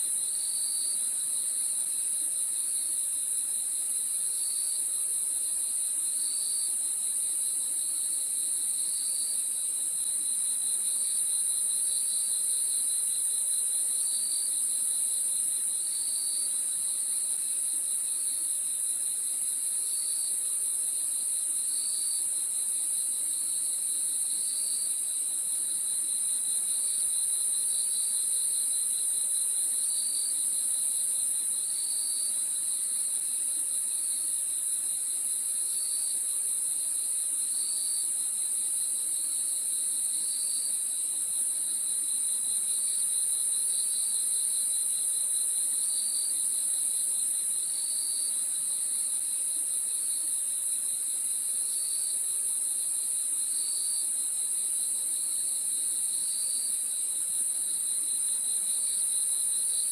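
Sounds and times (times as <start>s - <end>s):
lower pulsing cricket chirp: 0.0s - 59.9s.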